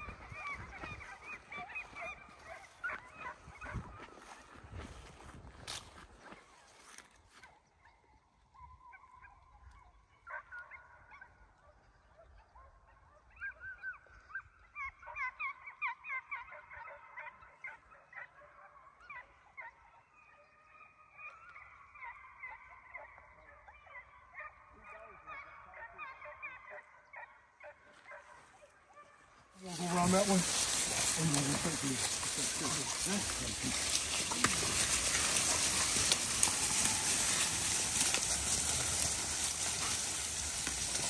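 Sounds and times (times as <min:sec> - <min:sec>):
hounds baying: 0:00.0 - 0:05.2, 0:08.6 - 0:41.0.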